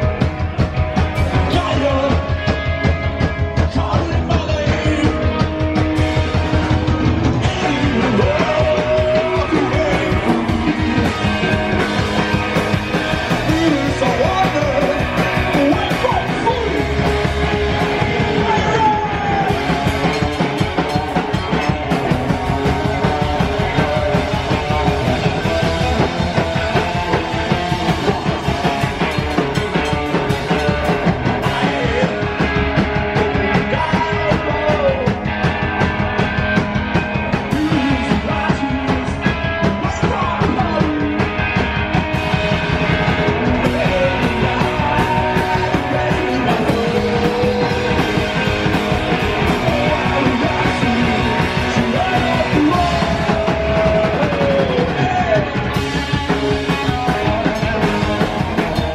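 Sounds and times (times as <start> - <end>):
drum kit beat: 0.0 - 58.9
electric guitars: 0.0 - 58.9
man singing: 0.0 - 58.9.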